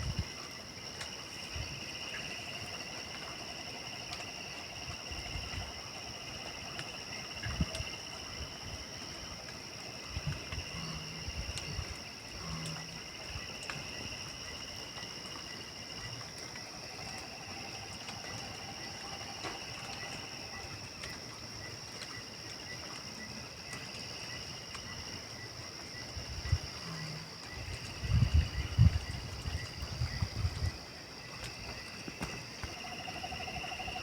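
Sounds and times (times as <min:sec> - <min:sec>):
crickets chirring: 0:00.0 - 0:34.0
low pulsing insect trill: 0:00.0 - 0:34.0.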